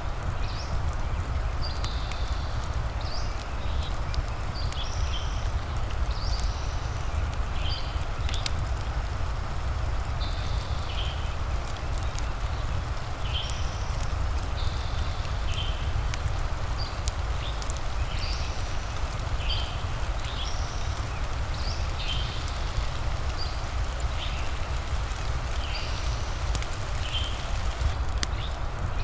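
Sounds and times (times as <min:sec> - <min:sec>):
fire crackling: 0:00.0 - 0:29.0
rain-like hiss: 0:00.0 - 0:29.0.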